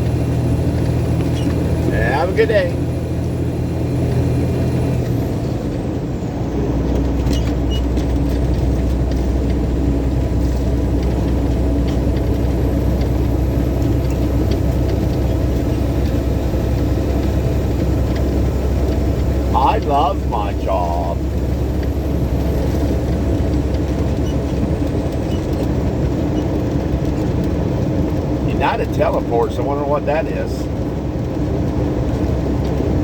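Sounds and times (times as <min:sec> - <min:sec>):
road noise: 0:00.0 - 0:33.0
truck diesel engine: 0:00.0 - 0:33.0.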